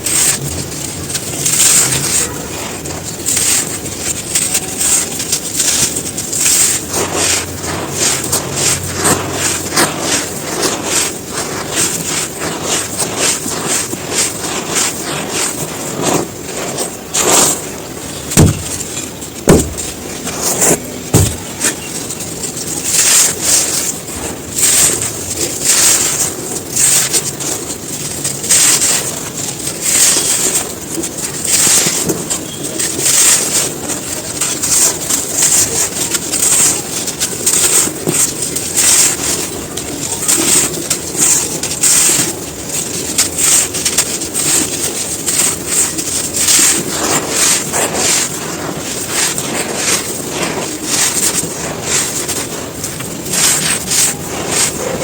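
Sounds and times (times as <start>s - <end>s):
sand clumps crumbling: 0.0s - 55.0s.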